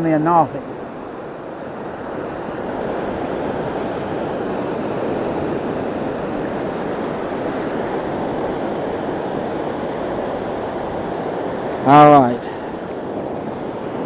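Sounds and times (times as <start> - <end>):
ocean surf: 0.0 - 14.0
wind on microphone: 0.0 - 14.0.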